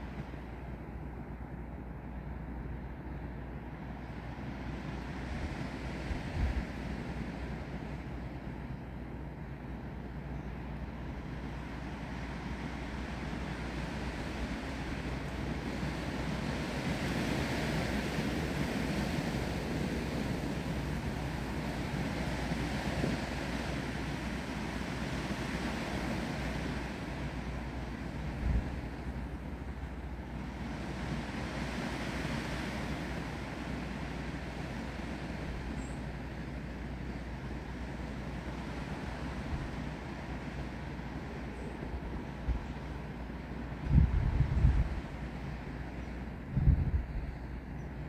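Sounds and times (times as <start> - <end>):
wind blowing through trees: 3.9 - 48.0.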